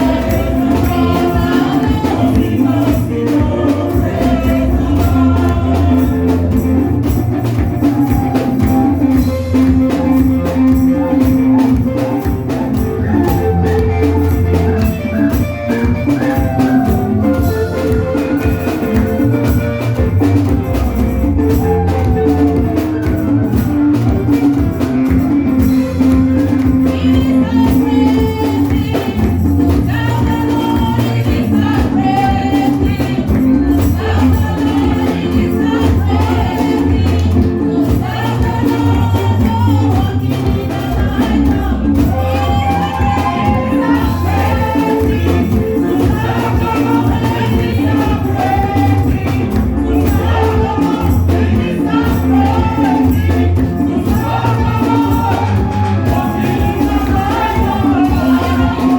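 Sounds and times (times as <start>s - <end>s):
gospel music with singing: 0.0s - 58.9s
tambourine: 0.0s - 58.9s.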